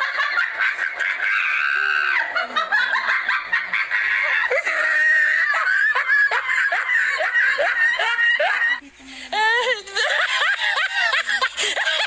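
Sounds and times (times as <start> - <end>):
shrill laughter: 0.0 - 8.8, 9.4 - 12.0.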